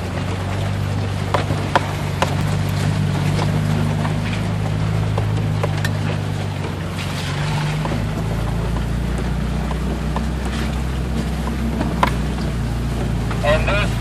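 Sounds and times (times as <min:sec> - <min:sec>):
car engine droning while driving: 0:00.0 - 0:14.0
light clicks and knocks: 0:00.2 - 0:13.4.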